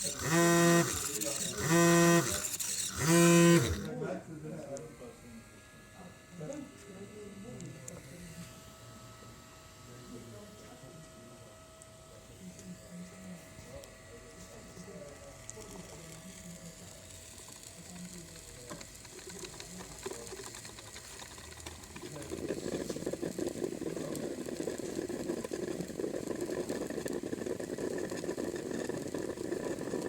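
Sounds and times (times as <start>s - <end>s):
coffee machine whirring: 0.0s - 30.0s.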